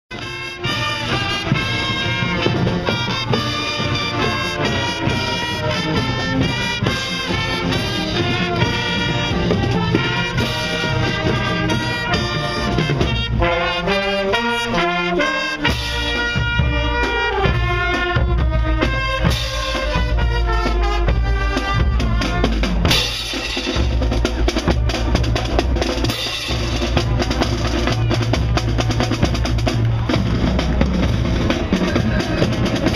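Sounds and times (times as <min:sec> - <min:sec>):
marching band playing: 0:00.1 - 0:32.9.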